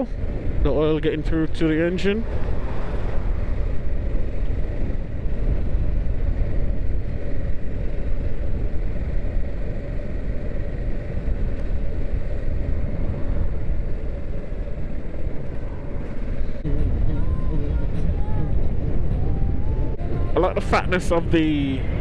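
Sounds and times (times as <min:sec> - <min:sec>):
motorcycle engine rumble: 0:00.0 - 0:22.0
wind noise: 0:00.0 - 0:22.0.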